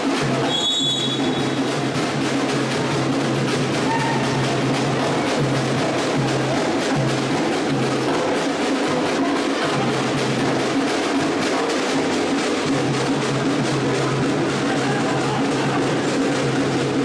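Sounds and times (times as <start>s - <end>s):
music with drums: 0.0s - 17.0s.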